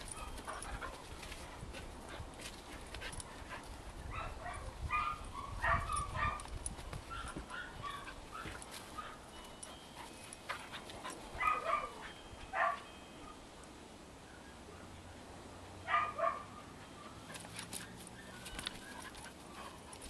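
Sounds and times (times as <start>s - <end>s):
dogs yipping and barking: 0.0s - 13.4s, 15.9s - 20.0s.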